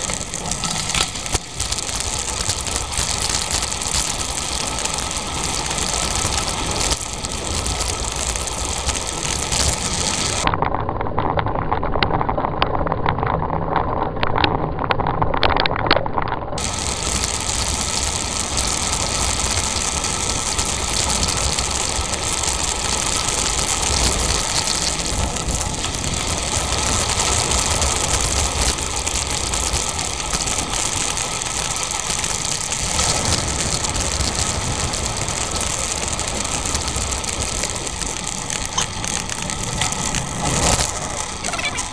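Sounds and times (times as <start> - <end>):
bicycle rolling on asphalt: 0.0 - 41.9
wind: 0.0 - 41.9.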